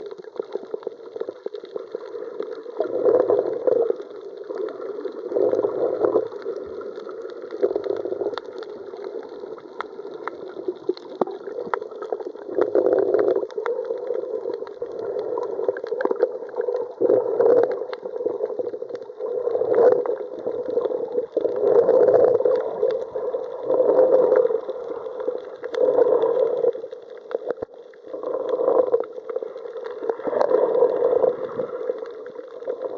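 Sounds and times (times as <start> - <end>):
underwater sloshing and gurgling: 0.0 - 32.9.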